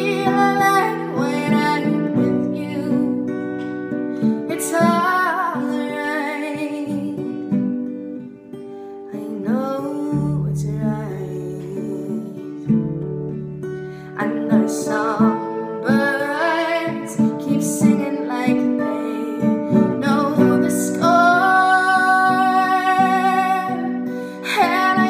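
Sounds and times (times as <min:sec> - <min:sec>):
woman singing: 0:00.0 - 0:07.9, 0:09.0 - 0:25.0
acoustic guitar picked: 0:00.0 - 0:25.0.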